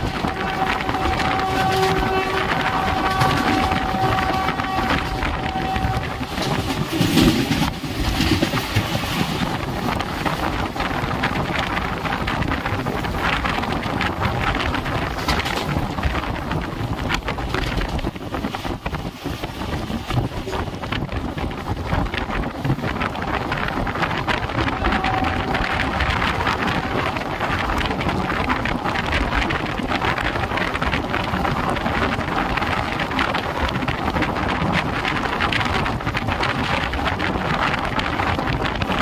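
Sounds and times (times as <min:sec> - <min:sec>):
train wheels clattering on track: 0:00.0 - 0:39.0
wind buffeting microphone: 0:00.0 - 0:39.0.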